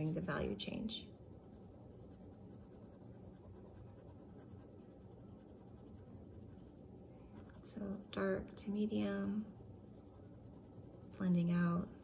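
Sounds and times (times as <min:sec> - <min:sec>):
pencil scratching on paper: 0:01.1 - 0:12.0.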